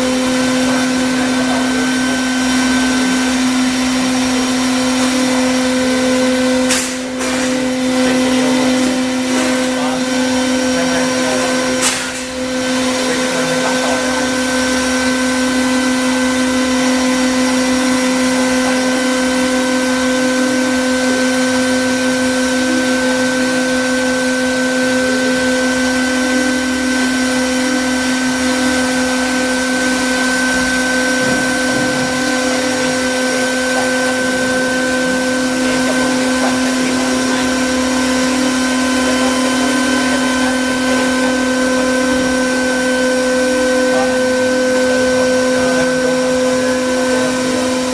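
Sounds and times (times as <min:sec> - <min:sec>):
fan noise: 0:00.0 - 0:47.9
spindle running with high whine: 0:00.0 - 0:47.9.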